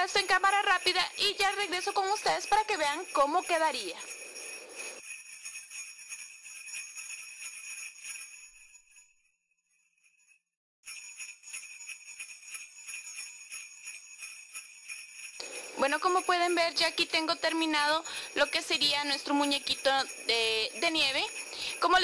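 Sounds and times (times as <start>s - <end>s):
jingling bells: 0.0s - 22.0s.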